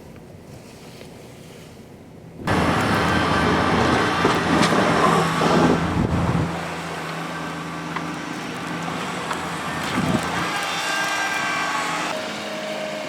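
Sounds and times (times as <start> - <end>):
snow plow truck passing: 2.4 - 13.0.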